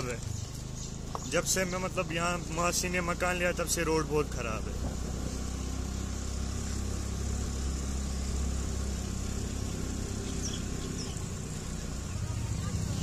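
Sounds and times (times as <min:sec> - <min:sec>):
road noise on rough road: 0:00.0 - 0:13.0
vehicle engine running: 0:00.0 - 0:13.0.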